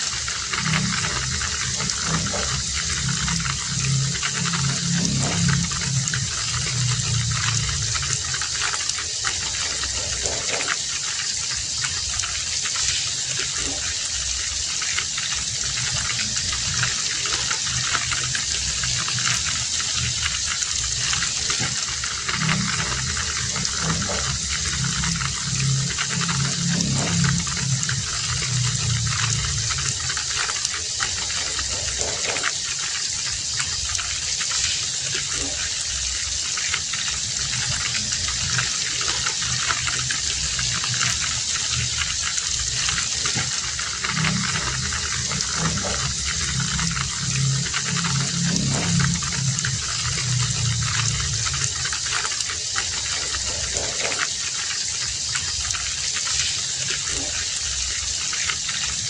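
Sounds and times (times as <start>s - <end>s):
heavy rain hissing: 0.0s - 59.0s
low water noise: 0.0s - 59.0s.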